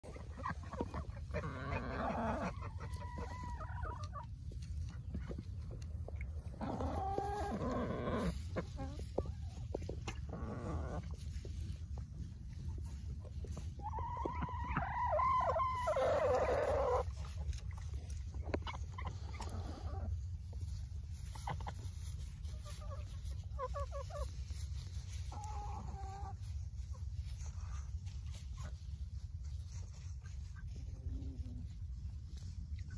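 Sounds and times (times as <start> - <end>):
hens clucking and calling: 0.0 - 32.9
steady low rumble: 2.5 - 14.6, 17.0 - 32.9.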